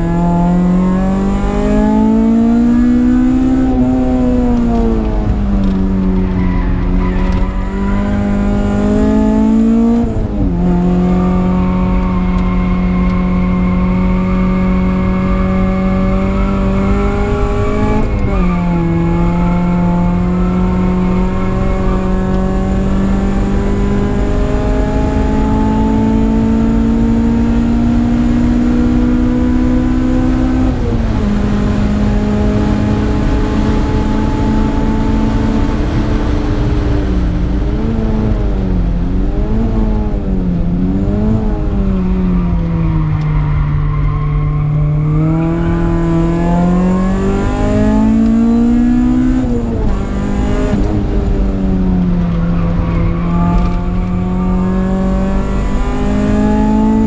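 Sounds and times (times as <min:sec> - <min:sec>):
car engine revving through gears: 0:00.0 - 0:57.0.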